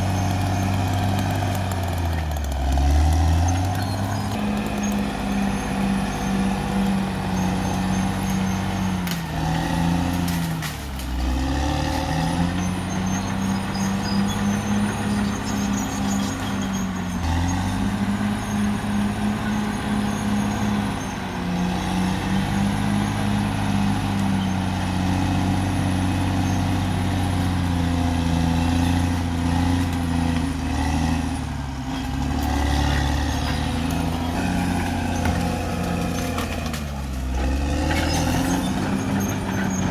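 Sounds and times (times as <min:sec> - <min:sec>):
bulldozer diesel engine running hard: 0:00.0 - 0:39.9.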